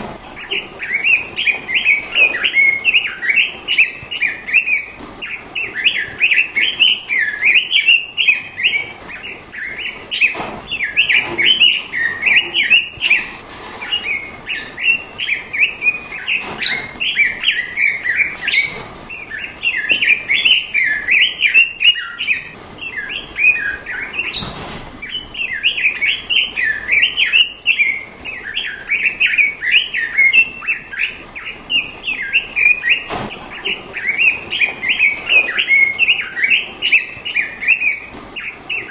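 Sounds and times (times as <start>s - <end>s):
songbird twittering warble: 0.4s - 38.9s.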